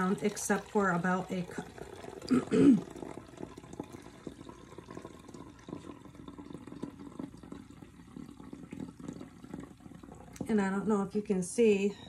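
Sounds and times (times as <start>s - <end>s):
liquid trickling: 0.0s - 11.2s.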